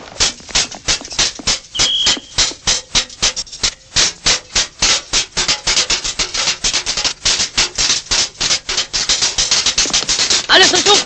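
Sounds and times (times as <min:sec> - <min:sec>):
hammers tapping on copper trays: 0:00.0 - 0:11.0.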